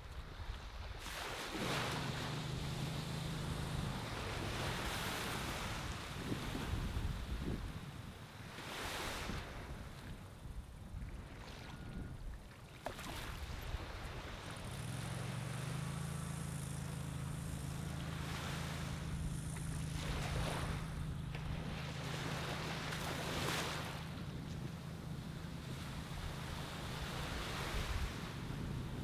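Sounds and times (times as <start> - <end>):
low engine hum: 0.0 - 29.0
ocean waves washing on sand: 0.0 - 29.0.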